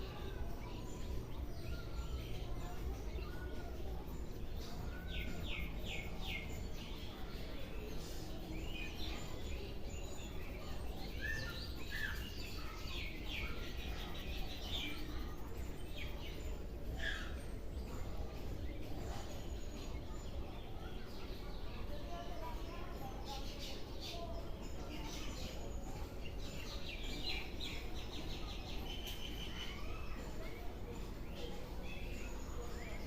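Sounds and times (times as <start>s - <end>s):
birds chirping: 0.0s - 33.0s
low background noise: 0.0s - 33.0s.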